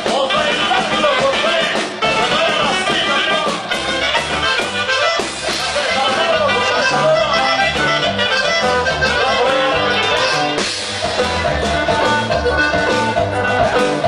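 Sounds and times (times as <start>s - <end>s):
accordion melody: 0.0s - 14.0s
bass notes: 0.0s - 14.0s.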